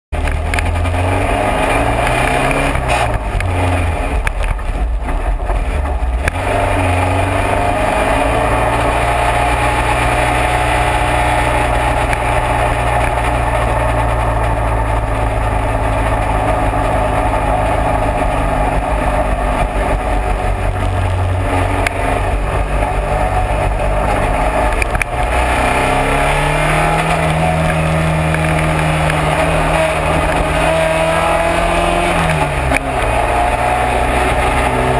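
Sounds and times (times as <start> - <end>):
race car engine running hard: 0.2 - 34.9.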